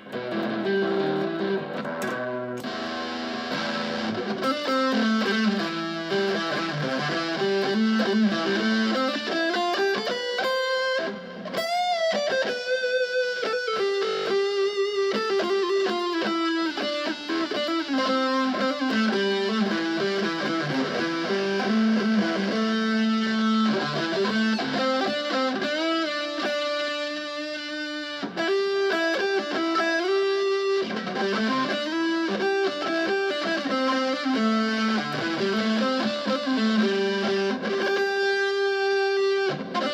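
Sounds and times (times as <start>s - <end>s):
electric guitar melody: 0.0s - 39.9s.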